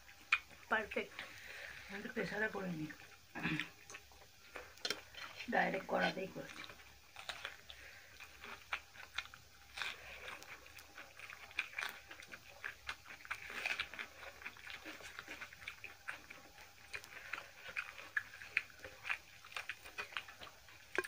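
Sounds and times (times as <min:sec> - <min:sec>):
chewing and mouth smacking: 0:00.0 - 0:21.0.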